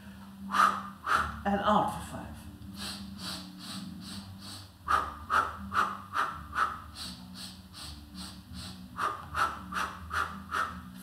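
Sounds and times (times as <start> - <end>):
woman breathing in: 0.0 - 1.4, 2.7 - 10.9.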